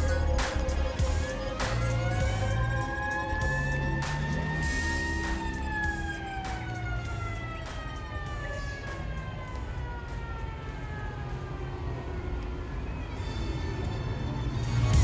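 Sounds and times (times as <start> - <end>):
siren falling tone: 0.0 - 14.3.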